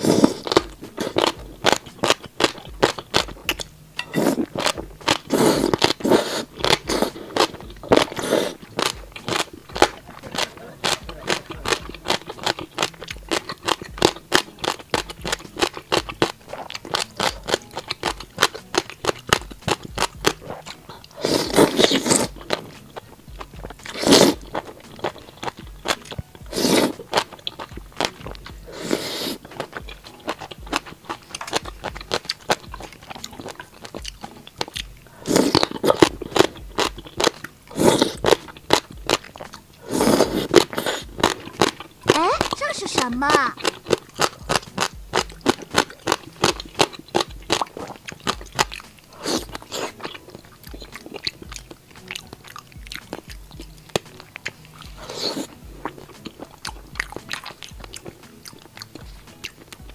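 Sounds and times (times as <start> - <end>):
noodle slurping: 0.0 - 59.8
crunchy chewing: 0.0 - 59.9.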